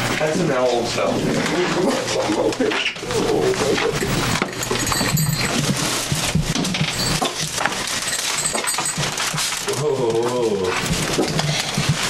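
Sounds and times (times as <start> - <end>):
knocks and rustling: 0.0 - 12.0.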